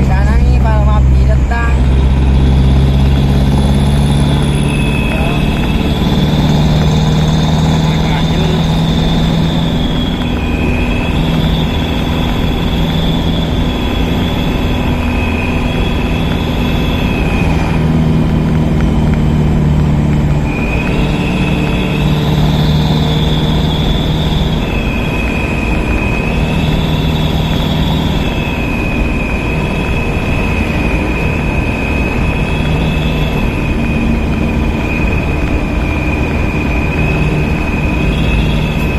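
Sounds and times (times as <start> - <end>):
held tones changing pitch: 0.0 - 38.9
road noise: 0.0 - 38.9
vehicle engine: 0.0 - 38.9.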